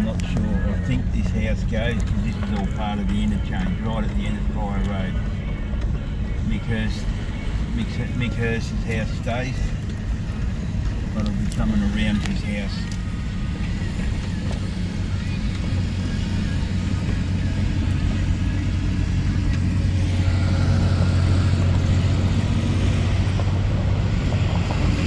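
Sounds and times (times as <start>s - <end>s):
car engine and tyre hum: 0.0s - 25.0s.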